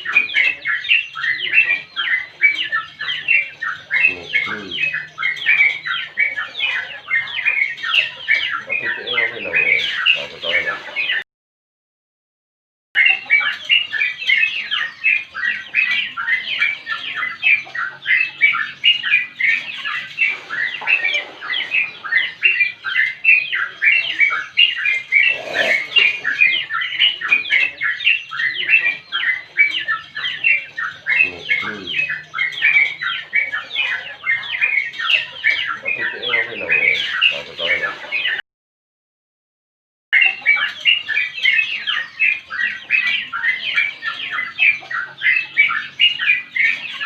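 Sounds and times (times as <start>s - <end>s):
bird chattering song: 0.0s - 11.2s, 13.0s - 38.4s, 40.2s - 47.0s.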